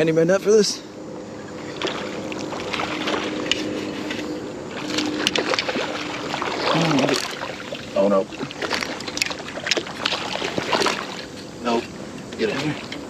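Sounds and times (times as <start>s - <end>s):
road traffic hum: 0.0s - 13.0s
water splashing and sloshing: 1.4s - 13.0s.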